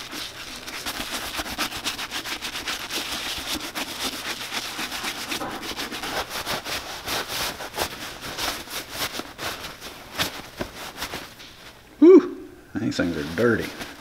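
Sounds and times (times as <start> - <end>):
brush scrubbing leather: 0.0 - 11.3
towel rubbing leather: 0.0 - 11.4.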